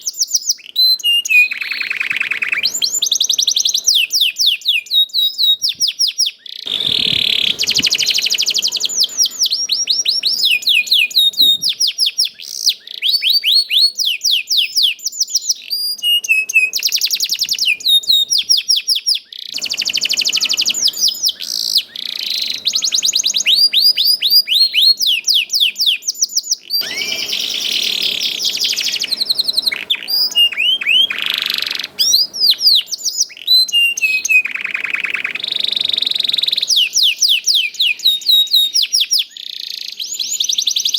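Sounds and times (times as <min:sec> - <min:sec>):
canary singing trills and chirps: 0:00.0 - 0:40.9.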